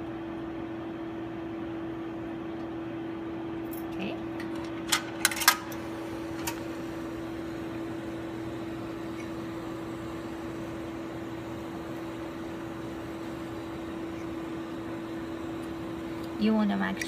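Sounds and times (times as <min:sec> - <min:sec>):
laboratory equipment humming: 0:00.0 - 0:17.0.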